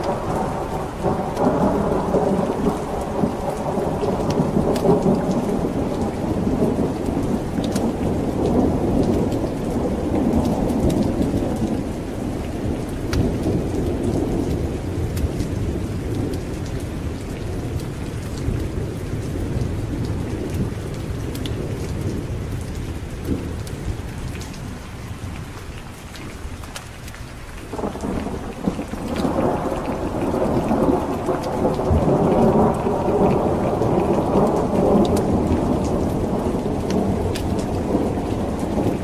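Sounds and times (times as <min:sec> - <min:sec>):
rolling thunder: 0:00.0 - 0:24.8, 0:27.7 - 0:39.0
steady rain: 0:00.0 - 0:39.0.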